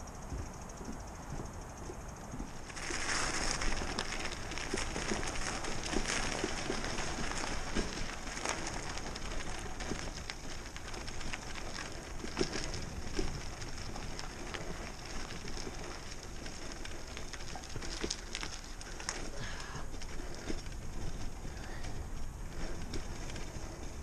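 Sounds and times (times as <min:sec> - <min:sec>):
bicycle tyres crunching on gravel: 0:00.0 - 0:24.0.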